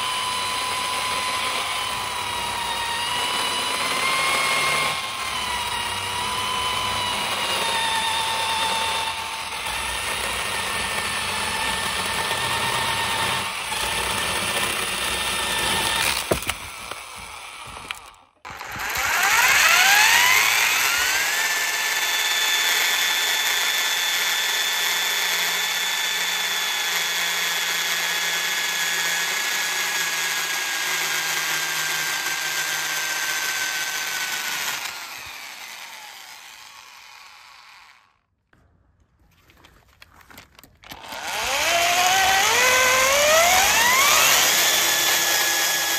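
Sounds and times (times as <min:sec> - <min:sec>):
electric drill motor whine: 0:00.0 - 0:38.3, 0:40.8 - 0:45.9.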